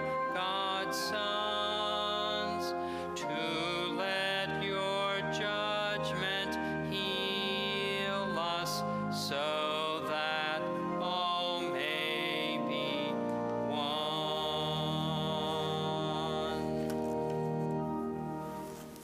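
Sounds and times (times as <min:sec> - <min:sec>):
church organ playing chords: 0:00.0 - 0:19.0.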